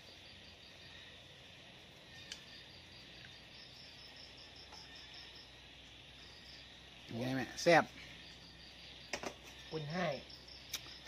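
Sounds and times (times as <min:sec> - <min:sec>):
faint insect chirping: 0:00.0 - 0:11.0
steady high hiss: 0:00.0 - 0:11.0.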